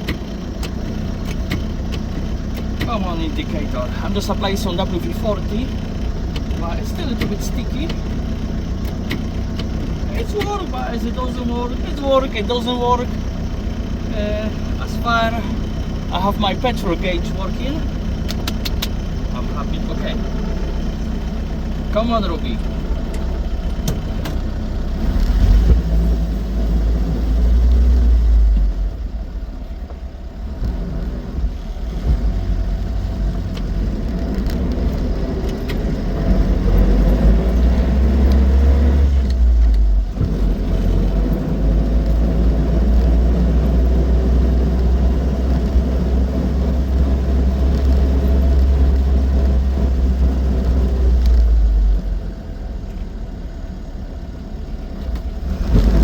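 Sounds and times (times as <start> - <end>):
small car engine rumbling: 0.0 - 56.0.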